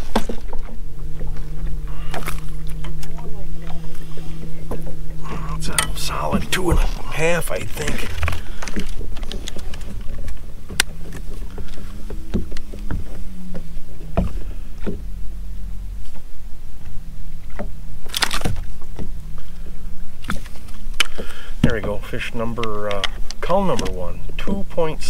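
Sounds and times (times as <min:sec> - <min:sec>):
clicks and knocks handling fish: 0:00.0 - 0:15.0, 0:16.1 - 0:24.6
faint low hum: 0:00.0 - 0:25.0.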